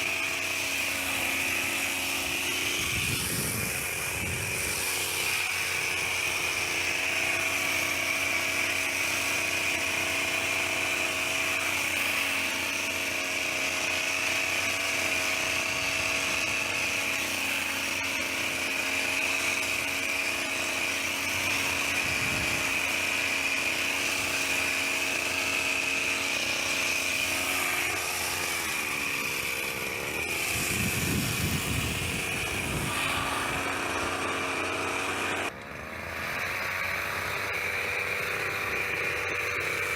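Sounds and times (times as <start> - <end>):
hedge trimmer engine whining: 0.0 - 39.9.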